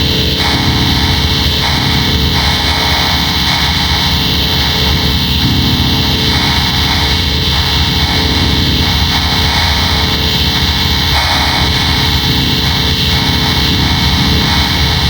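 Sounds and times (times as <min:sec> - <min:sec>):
distorted droning tones: 0:00.0 - 0:15.0.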